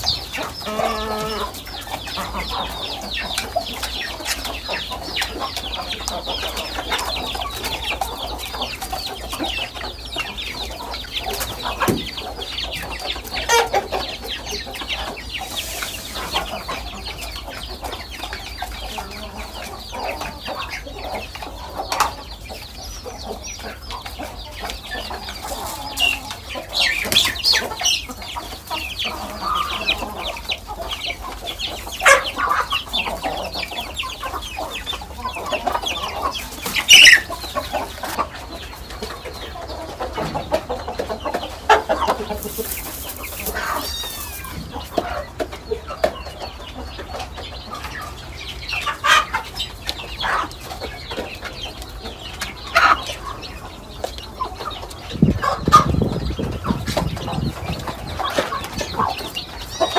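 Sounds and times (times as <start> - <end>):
chickens clucking: 0.0 - 59.9
chicks cheeping: 0.0 - 59.9.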